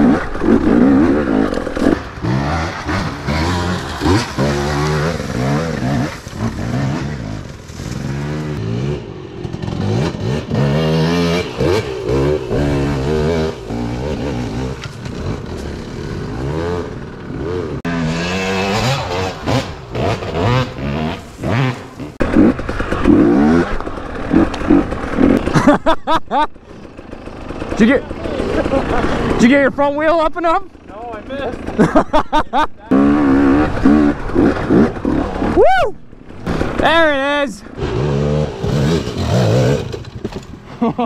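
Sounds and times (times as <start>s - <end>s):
dirt bike engine revving: 0.0s - 35.6s, 36.2s - 41.0s.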